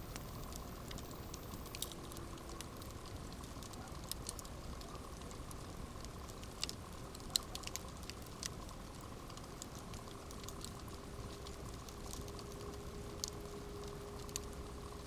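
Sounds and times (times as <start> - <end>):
campfire rumble and hiss: 0.0 - 15.0
wood crackling and popping: 0.0 - 15.0.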